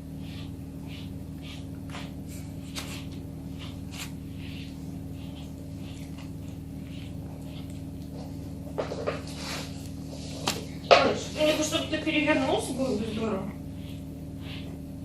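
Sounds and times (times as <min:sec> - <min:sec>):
brush scratching through fur: 0:00.0 - 0:14.8
puma purring: 0:00.0 - 0:14.8.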